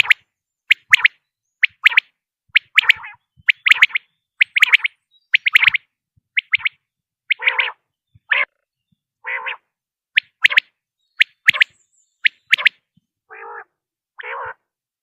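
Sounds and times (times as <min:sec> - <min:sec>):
quail calling: 0:00.0 - 0:02.0, 0:02.6 - 0:08.6, 0:09.2 - 0:14.6.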